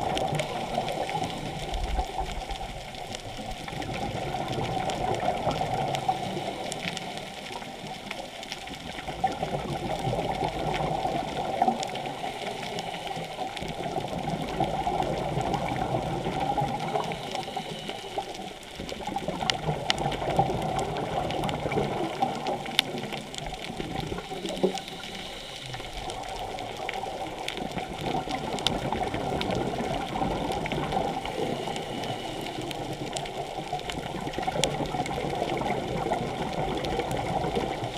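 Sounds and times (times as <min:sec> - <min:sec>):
muffled underwater water noise: 0:00.0 - 0:37.9.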